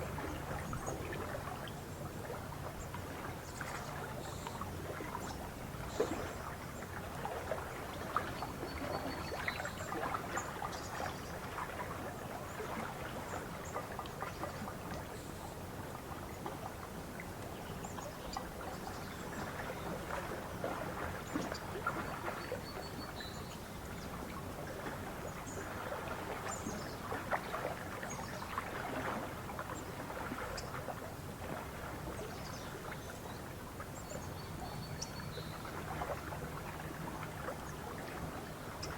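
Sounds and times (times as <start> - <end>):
lake water lapping: 0.0 - 38.9.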